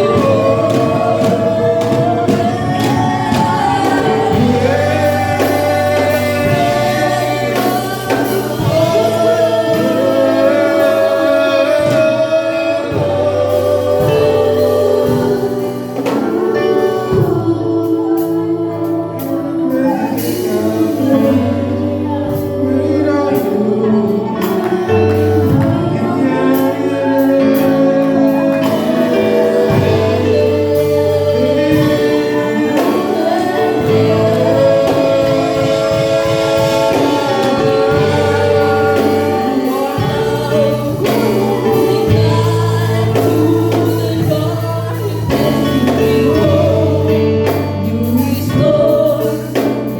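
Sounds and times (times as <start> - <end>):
choir singing: 0.0 - 49.9
instrumental accompaniment with bass: 0.0 - 49.9.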